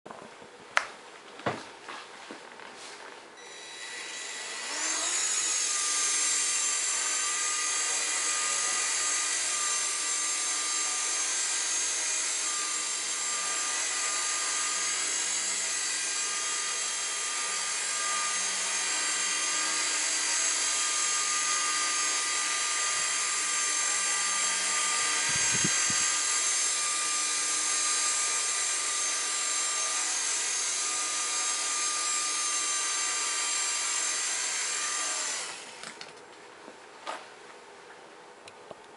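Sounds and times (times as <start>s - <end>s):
rc helicopter motor whining: 3.4s - 36.0s.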